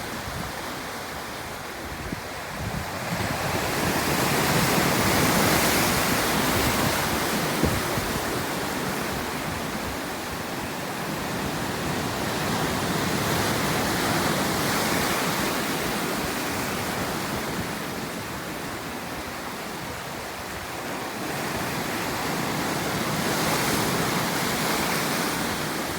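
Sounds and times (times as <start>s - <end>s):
sea waves breaking on shore: 0.0s - 25.9s.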